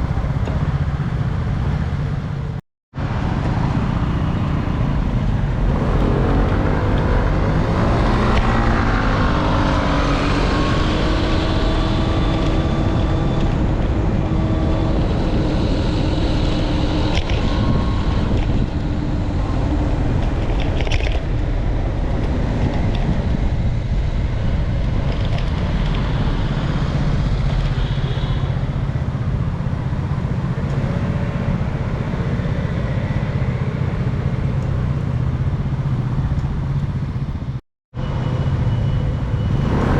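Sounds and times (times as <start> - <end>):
passing vehicle engines: 0.0 - 39.9
road traffic: 0.0 - 39.9
wind on microphone: 3.1 - 35.9.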